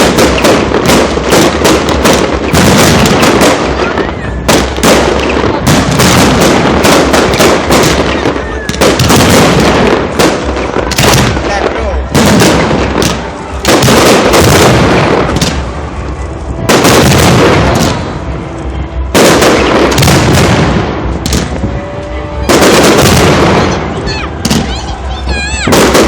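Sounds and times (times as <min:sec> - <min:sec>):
fireworks bursts: 0:00.0 - 0:26.0.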